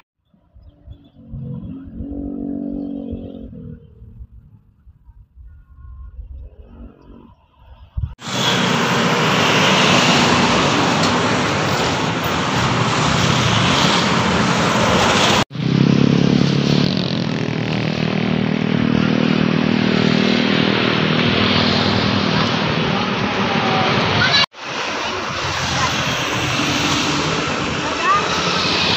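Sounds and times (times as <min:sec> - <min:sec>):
bus engine and road noise: 0:00.0 - 0:28.9.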